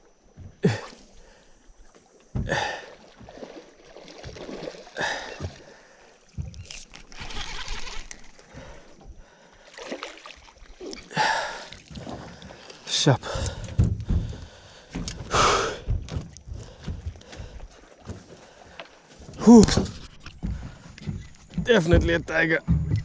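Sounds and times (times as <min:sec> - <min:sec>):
water lapping: 0:00.0 - 0:23.0
water splashing around a boat: 0:00.0 - 0:23.0.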